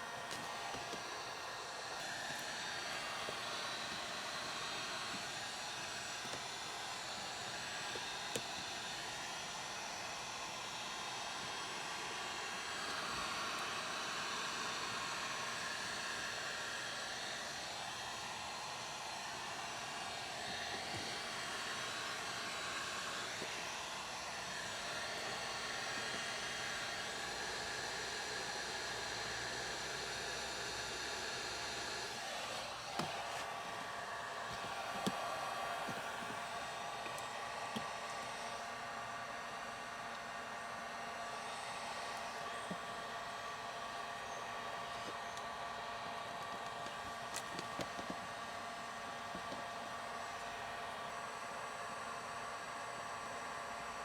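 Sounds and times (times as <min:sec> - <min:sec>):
electric blower motor running: 0:00.0 - 0:54.0.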